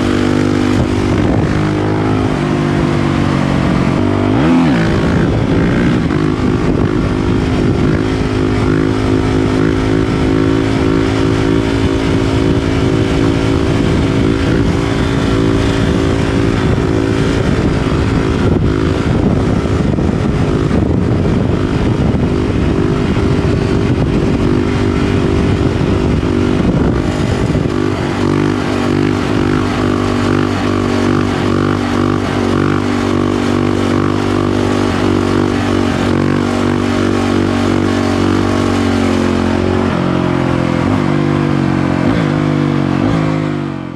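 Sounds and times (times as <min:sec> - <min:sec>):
motorbike engine running: 0:00.0 - 0:43.9.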